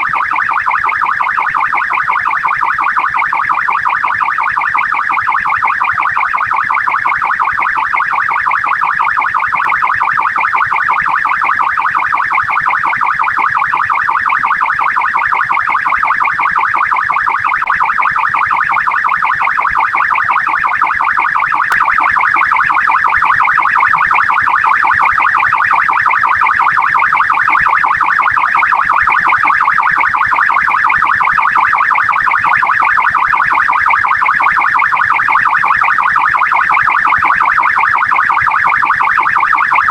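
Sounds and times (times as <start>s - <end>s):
police siren fast warble: 0.0s - 39.9s.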